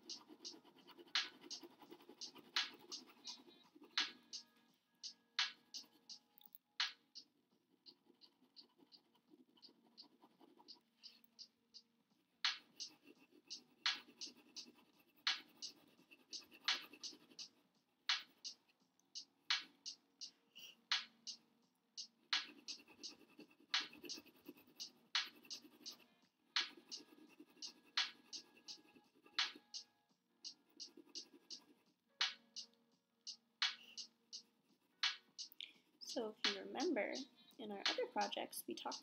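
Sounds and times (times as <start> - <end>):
pencil scratching on paper: 0.0 - 11.5, 12.4 - 21.4, 22.0 - 32.7, 33.3 - 39.0.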